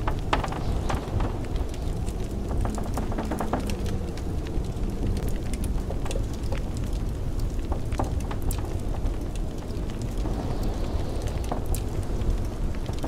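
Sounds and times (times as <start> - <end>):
low rumble of wind: 0.0 - 13.0
wood fire crackling: 0.0 - 13.0.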